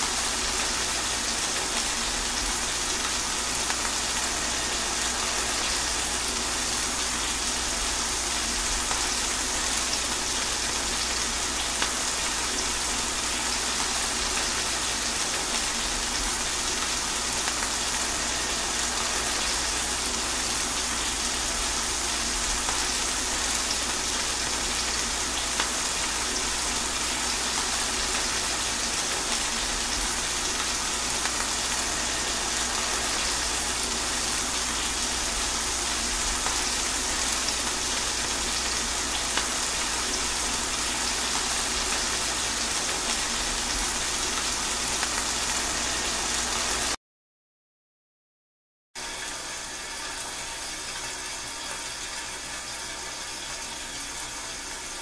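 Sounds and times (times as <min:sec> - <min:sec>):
steady rain hiss: 0:00.0 - 0:47.0.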